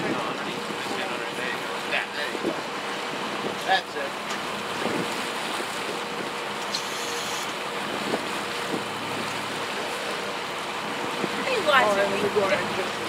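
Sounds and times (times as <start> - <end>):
low engine hum: 0.0 - 13.0
sea noise: 0.0 - 13.0
wind: 0.0 - 13.0.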